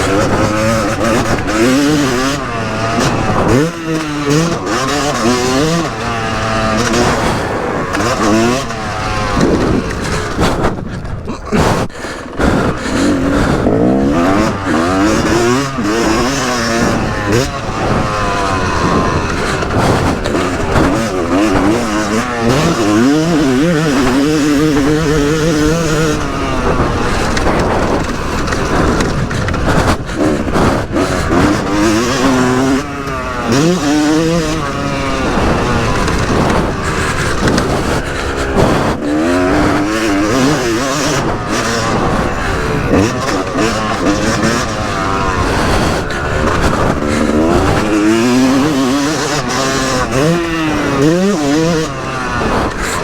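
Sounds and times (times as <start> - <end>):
steady rushing noise: 0.0 - 53.0
two-stroke motocross engine revving: 0.0 - 53.0.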